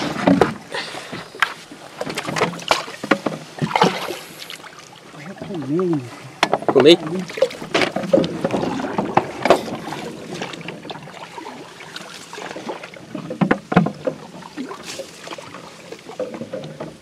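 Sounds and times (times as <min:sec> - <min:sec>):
water splashing and knocking: 0:00.0 - 0:17.0.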